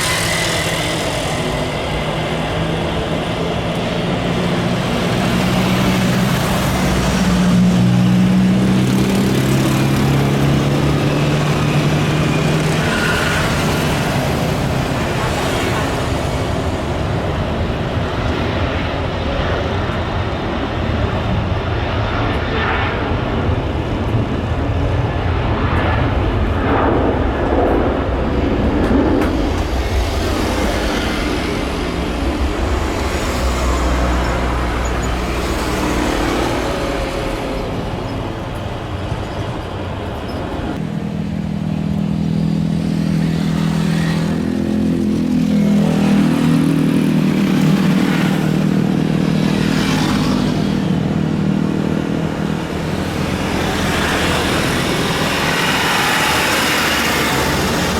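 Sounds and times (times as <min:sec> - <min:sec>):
jet engines droning: 0:00.0 - 0:57.9
vehicle noise: 0:00.0 - 0:57.9.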